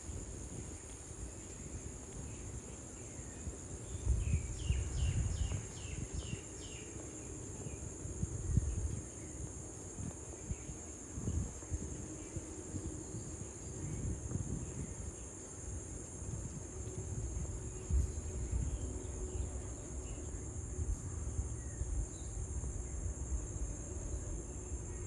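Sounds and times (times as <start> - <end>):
insect chorus drone: 0.0 - 25.0
low rumble on microphone: 0.0 - 25.0.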